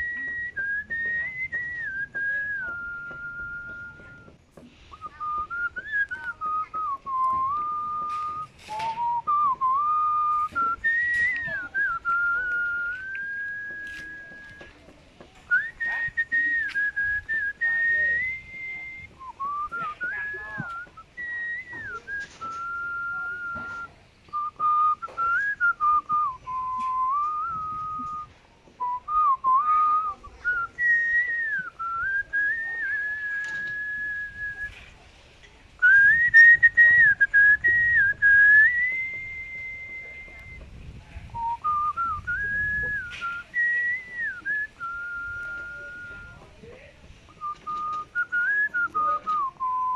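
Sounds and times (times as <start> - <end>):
person whistling a tune: 0.0 - 35.0, 35.8 - 49.9.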